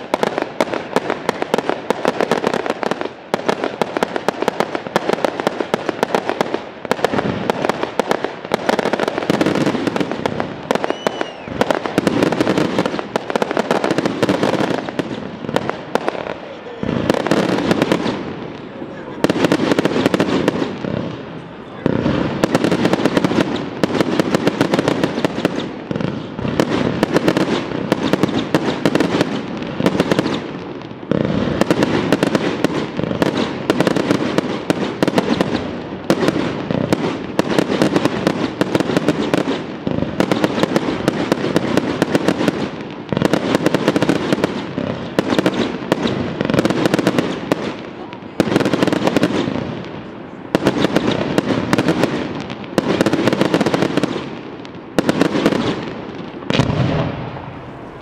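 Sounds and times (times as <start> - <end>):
firework shell bursts and crackling: 0.0 - 58.0.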